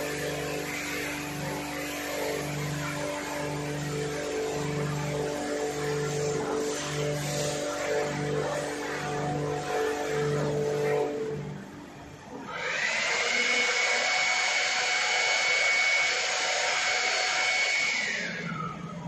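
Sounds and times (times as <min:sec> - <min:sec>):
motor whine with rushing hiss: 0:00.0 - 0:18.8
pulsing pump hum: 0:00.0 - 0:19.0.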